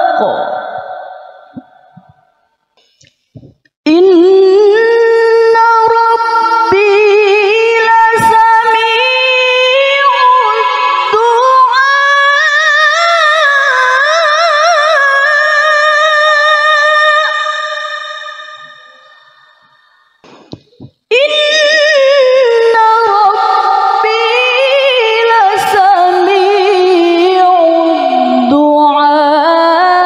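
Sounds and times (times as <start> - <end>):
woman reciting melodically: 3.4 - 19.9, 20.5 - 30.0.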